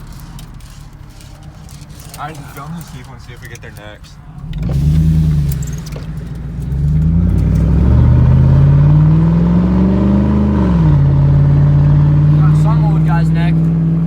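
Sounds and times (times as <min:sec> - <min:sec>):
pickup truck engine revving: 0:00.0 - 0:14.0.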